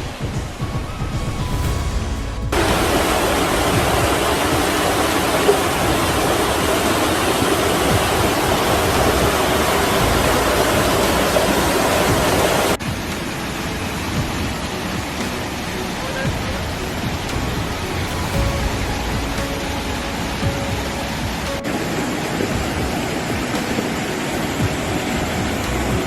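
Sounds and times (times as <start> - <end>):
rushing floodwater roar: 2.4 - 26.0.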